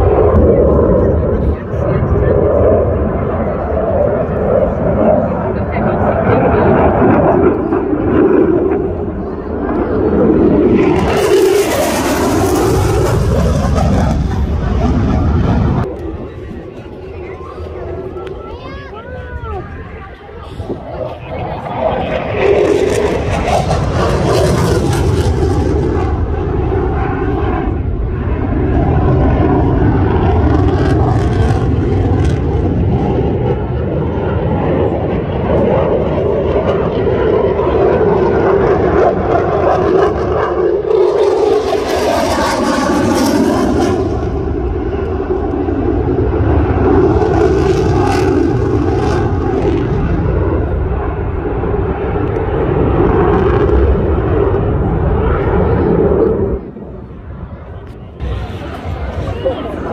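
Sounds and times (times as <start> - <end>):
jet engine overhead: 0.0 - 59.9.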